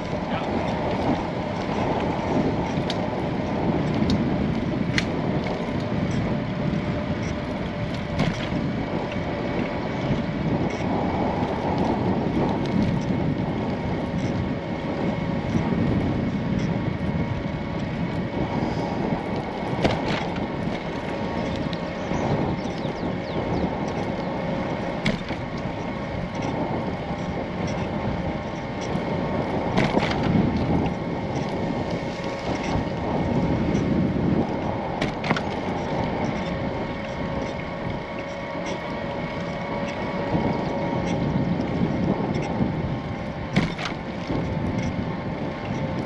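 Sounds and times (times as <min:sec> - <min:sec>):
bicycle clicks and rattles: 0:00.0 - 0:46.0
bicycle tyres rolling on path: 0:00.0 - 0:46.0
wind on microphone: 0:00.0 - 0:46.0.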